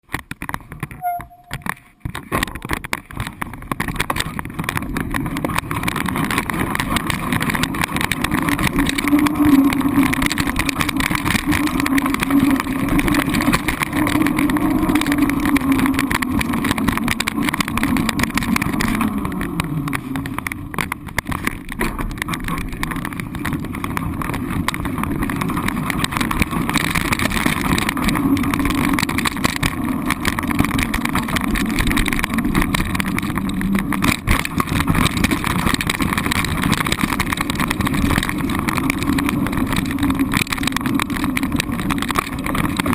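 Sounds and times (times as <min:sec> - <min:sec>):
road travel noise: 0:00.0 - 0:42.9
vehicle engine running: 0:01.0 - 0:42.9.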